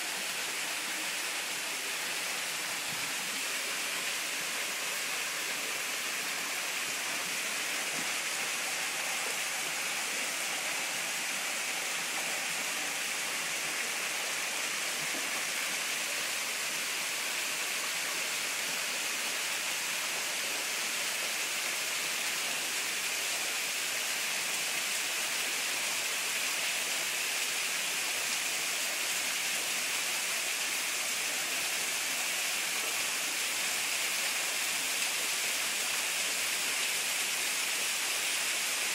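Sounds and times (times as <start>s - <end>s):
waterfall splashing into pool: 0.0s - 38.9s.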